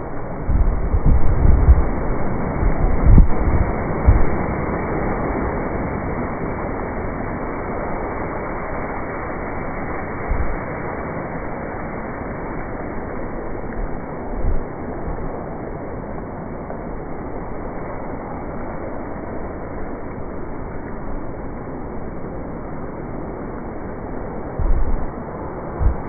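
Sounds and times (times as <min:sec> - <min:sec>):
heavy rain hissing: 0:00.0 - 0:26.0
wind gusts on microphone: 0:00.0 - 0:26.0.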